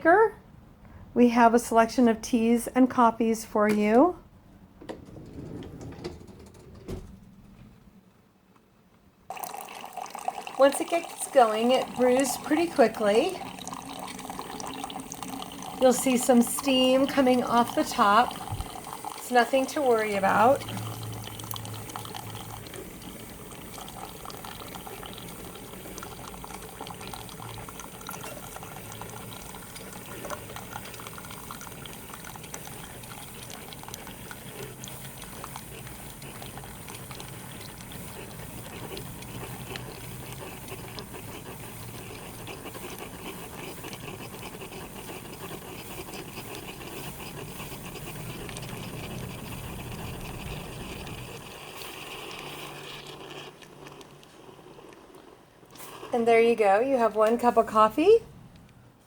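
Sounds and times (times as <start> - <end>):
coffee streaming into mug: 9.3 - 57.9.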